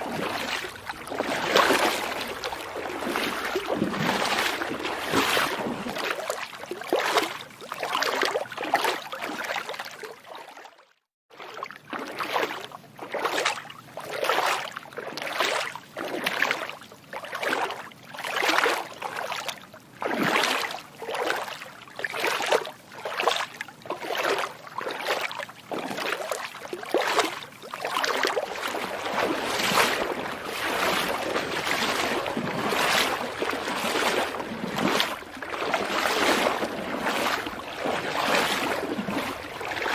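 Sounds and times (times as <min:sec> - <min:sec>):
footsteps splashing through water: 0:00.0 - 0:39.9.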